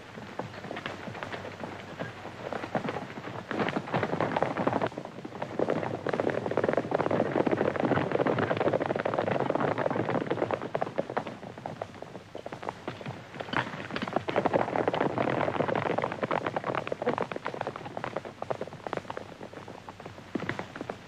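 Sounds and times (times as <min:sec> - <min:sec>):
horses galloping on dirt: 0:00.0 - 0:21.0.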